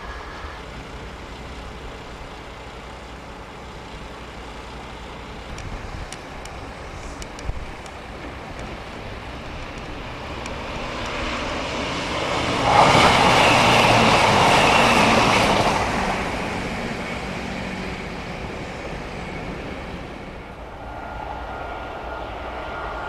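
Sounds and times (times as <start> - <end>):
diesel train passing at speed: 0.0 - 23.0.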